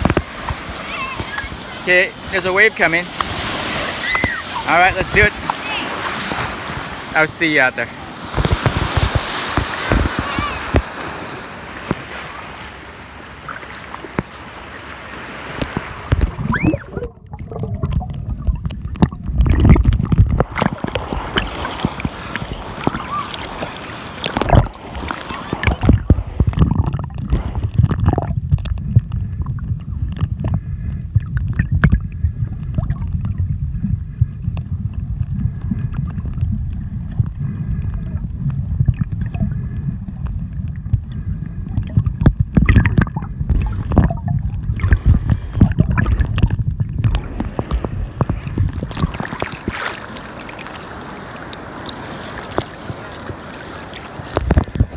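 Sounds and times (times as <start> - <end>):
knocks and splashes: 0.0 - 7.2, 8.2 - 54.9
churning water underwater: 0.0 - 54.9.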